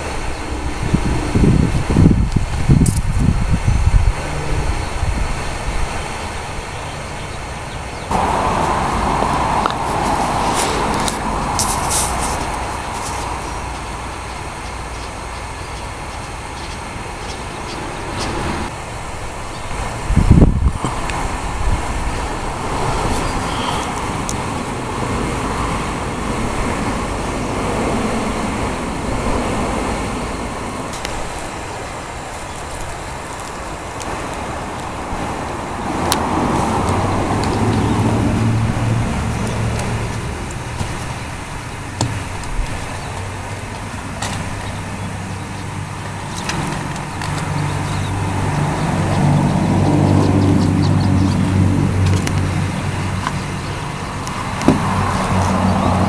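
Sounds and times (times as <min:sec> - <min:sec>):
low engine hum: 0:00.0 - 0:56.0
vehicles passing: 0:00.0 - 0:56.0.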